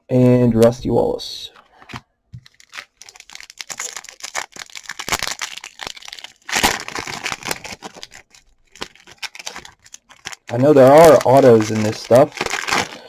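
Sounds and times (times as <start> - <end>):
card pack wrapper crinkling: 1.7 - 13.0.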